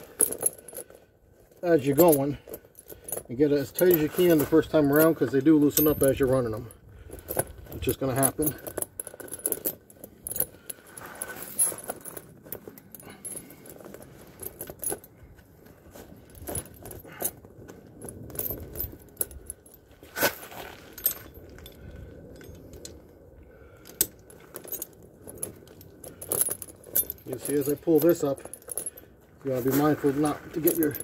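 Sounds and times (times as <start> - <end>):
steel tire chains clinking: 0.0 - 31.0.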